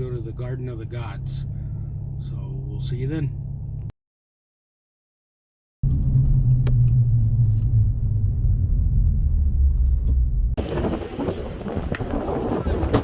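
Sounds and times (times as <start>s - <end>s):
car rumbling on road: 0.0s - 3.9s, 5.8s - 13.0s.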